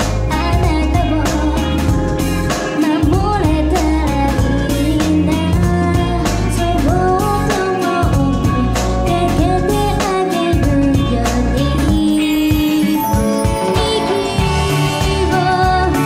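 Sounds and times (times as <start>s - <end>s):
backing track with steady beat: 0.0s - 16.0s
woman singing into microphone: 0.2s - 16.0s.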